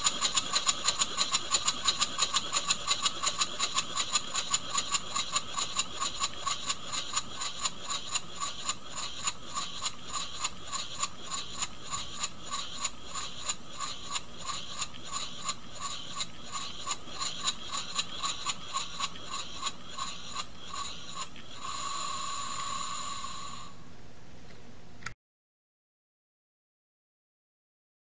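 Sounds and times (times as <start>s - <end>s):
model steam engine chuffing: 0.0s - 23.8s
steam hissing: 0.0s - 23.8s.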